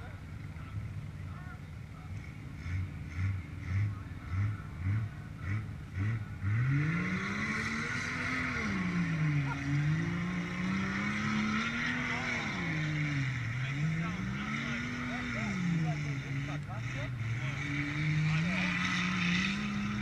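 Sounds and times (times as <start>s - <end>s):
truck engine revving under load: 2.2s - 20.0s.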